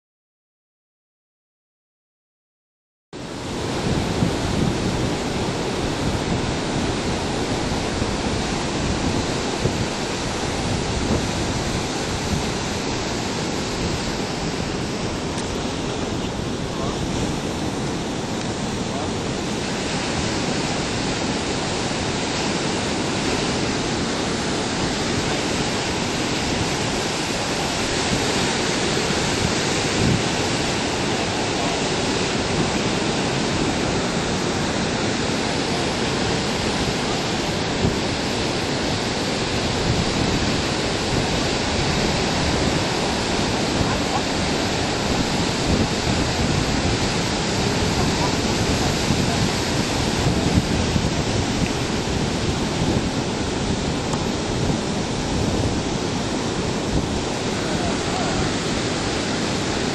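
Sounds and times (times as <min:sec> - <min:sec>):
ocean surf breaking: 0:03.2 - 0:59.9
wind on microphone: 0:03.2 - 0:59.9.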